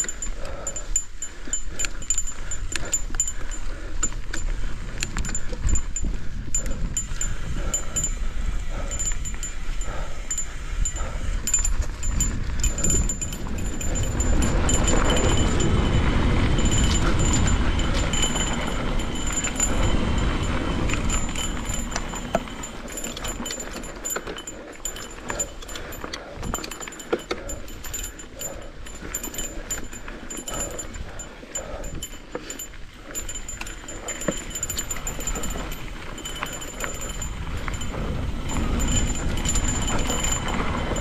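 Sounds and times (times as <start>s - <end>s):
bike rattling and clicking: 0.0s - 41.0s
high buzz of bicycle hub: 0.0s - 41.0s
wind and tyre rumble: 0.0s - 41.0s.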